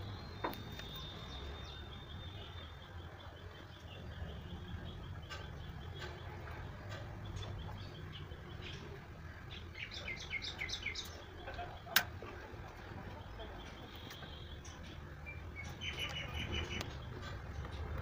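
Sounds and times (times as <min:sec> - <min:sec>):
bird chirping: 0:00.0 - 0:12.0, 0:12.8 - 0:17.9.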